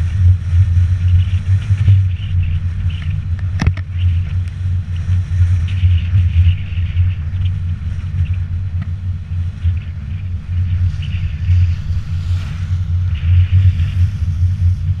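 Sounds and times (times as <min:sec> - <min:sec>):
wind and road travel rumble: 0:00.0 - 0:15.0.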